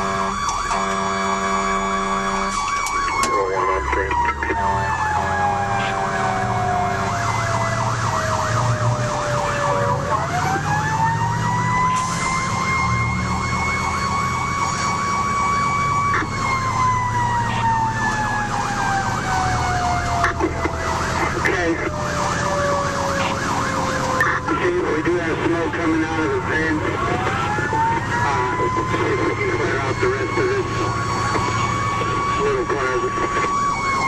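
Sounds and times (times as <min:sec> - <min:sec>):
fire engine siren wail: 0:00.0 - 0:34.0
truck engine rumble: 0:00.0 - 0:34.0
warbling siren yelp: 0:00.0 - 0:34.0.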